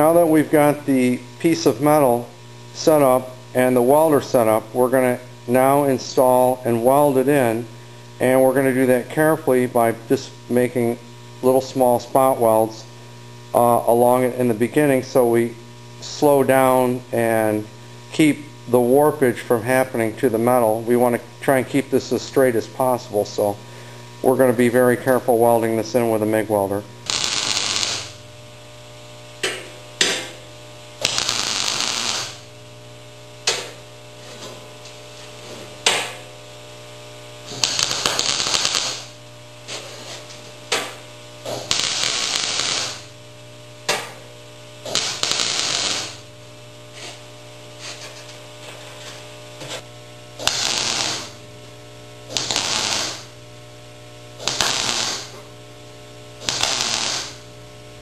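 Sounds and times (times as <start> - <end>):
steady electrical hum: 0.0 - 58.0
welder arc crackle: 0.0 - 58.0.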